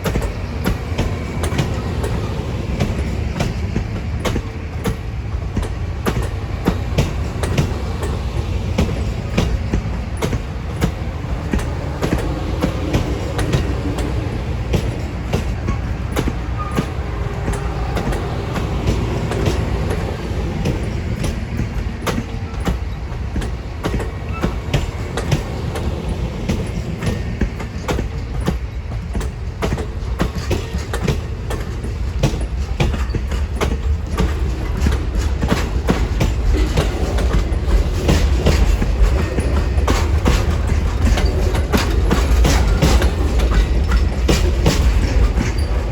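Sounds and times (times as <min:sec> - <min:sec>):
train rumbling past: 0:00.0 - 0:45.9
wheels clicking over rail joints: 0:00.0 - 0:45.9.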